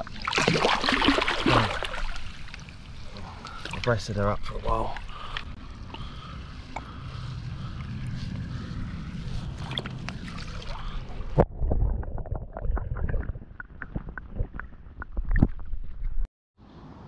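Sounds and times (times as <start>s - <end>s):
water sloshing and splashing: 0.0s - 16.2s.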